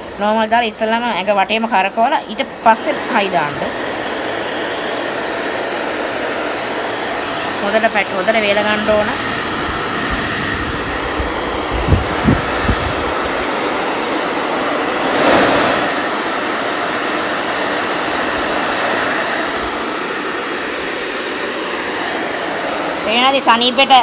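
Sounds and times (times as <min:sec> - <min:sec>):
hair dryer blowing: 0:00.0 - 0:24.0.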